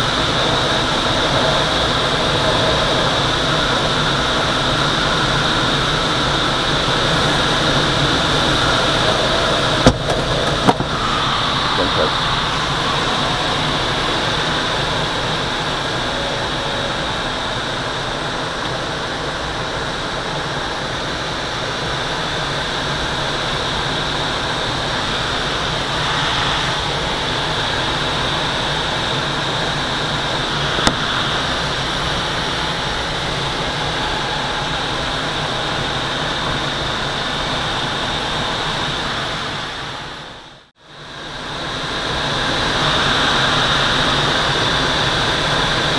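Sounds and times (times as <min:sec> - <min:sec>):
airflow rushing over glider canopy: 0:00.0 - 0:45.9.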